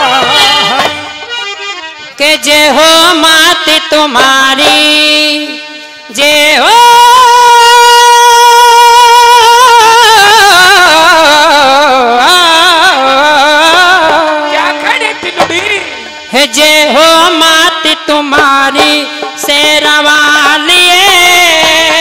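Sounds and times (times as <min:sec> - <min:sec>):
harmonium playing: 0:00.0 - 0:22.0.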